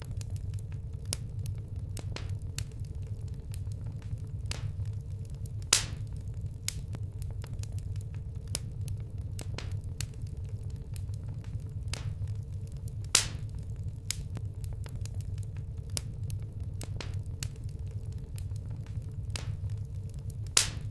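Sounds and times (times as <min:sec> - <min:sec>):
campfire crackling and popping: 0:00.0 - 0:20.9
loud fire snaps: 0:00.0 - 0:20.9
low fire rumble: 0:00.0 - 0:20.9.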